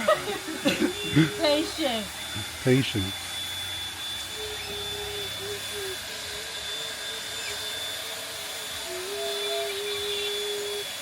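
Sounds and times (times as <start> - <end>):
hiss: 0.0 - 11.0
power tool motor whine: 0.0 - 11.0.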